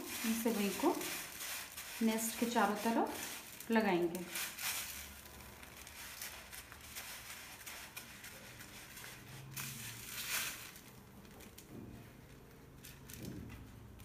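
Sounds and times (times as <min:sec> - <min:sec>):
dry noodles rustling and crackling: 0:00.0 - 0:14.0.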